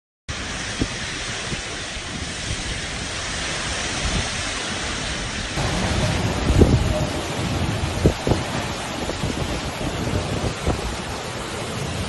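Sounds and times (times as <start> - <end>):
low wind gusts: 0.3 - 12.0
strong wind blowing: 0.3 - 12.0.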